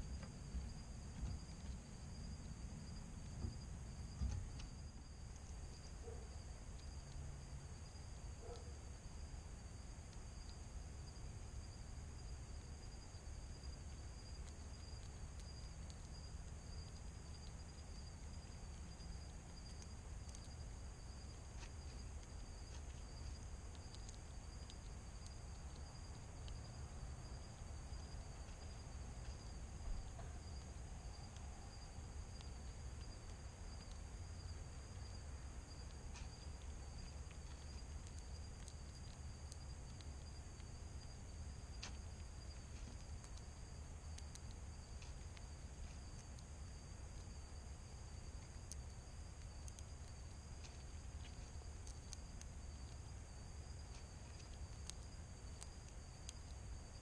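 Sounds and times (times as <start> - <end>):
crickets trilling: 0.0 - 57.0
faint scattered clicks: 0.0 - 57.0
low background rumble: 0.0 - 57.0.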